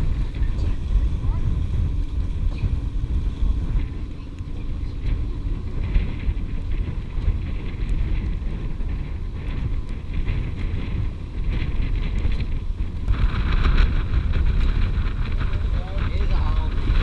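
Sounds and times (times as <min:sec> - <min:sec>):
boat motor rumble: 0:00.0 - 0:17.0
water: 0:00.0 - 0:17.0
wind buffeting microphone: 0:00.0 - 0:17.0.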